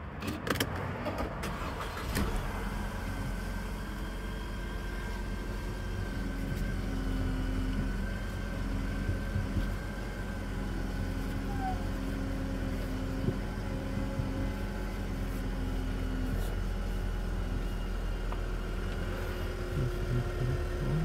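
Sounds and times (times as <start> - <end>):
car engine starting and idling: 0.0 - 21.0
faint constant whine: 1.6 - 21.0.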